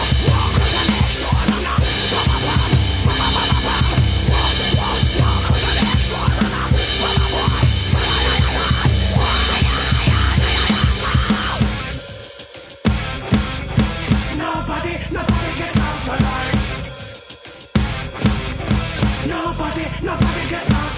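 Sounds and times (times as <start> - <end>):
electronic drum kit rock beat: 0.0 - 19.6, 20.2 - 20.9
backing track music: 0.0 - 20.9.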